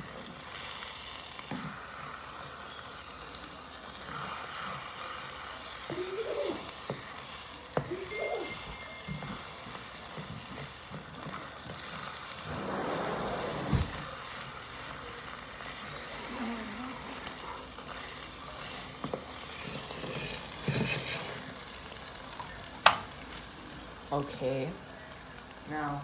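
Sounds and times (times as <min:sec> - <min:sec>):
eggs sizzling in a frying pan: 0:00.0 - 0:12.0, 0:14.8 - 0:26.0.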